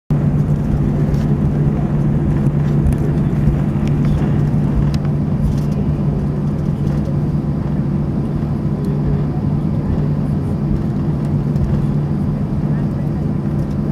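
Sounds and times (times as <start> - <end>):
jet engines droning in cabin: 0.1 - 13.9.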